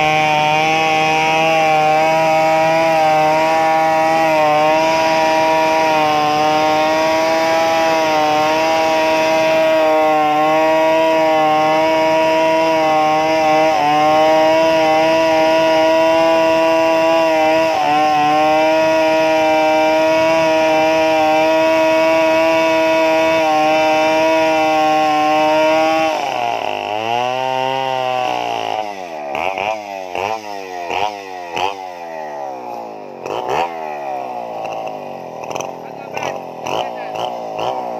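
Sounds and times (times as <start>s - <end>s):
chainsaw engine revving: 0.0s - 37.9s.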